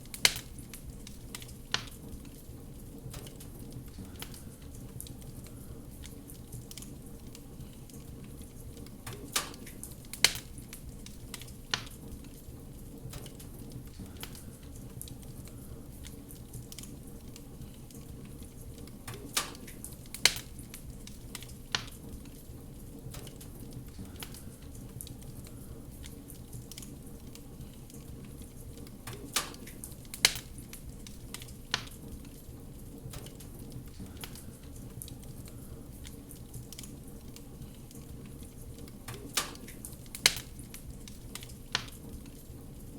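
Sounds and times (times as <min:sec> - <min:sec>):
fire burning: 0:00.0 - 0:42.9
fire crackling pops: 0:00.0 - 0:42.9.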